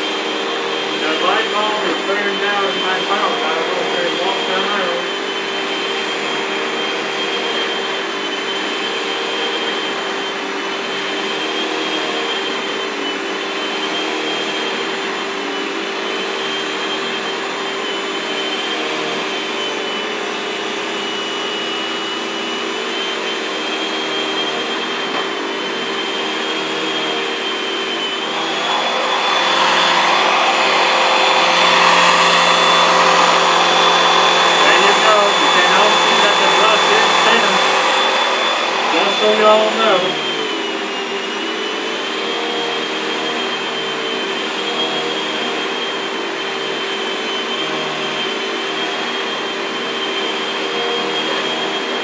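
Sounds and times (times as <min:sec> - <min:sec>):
vacuum cleaner motor whine: 0:00.0 - 0:52.0.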